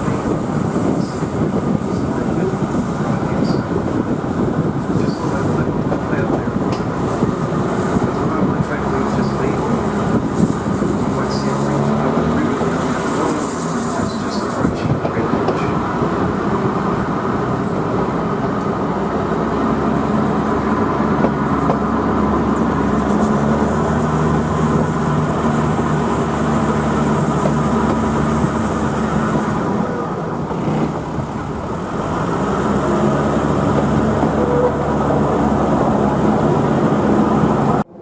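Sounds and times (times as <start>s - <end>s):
diesel engine drone: 0.0s - 38.0s
wheel and track rumble: 0.0s - 38.0s.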